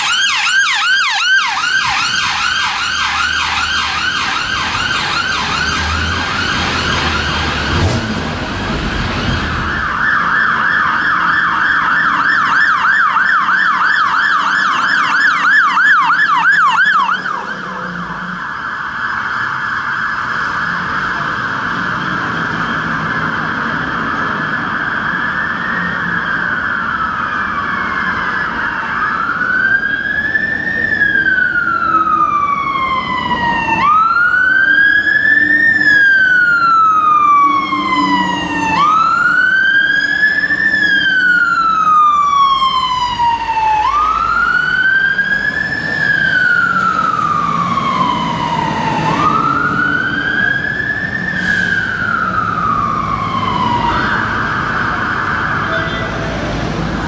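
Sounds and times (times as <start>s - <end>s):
fire engine siren wailing: 0.0s - 57.0s
low rumble of traffic: 0.0s - 57.0s.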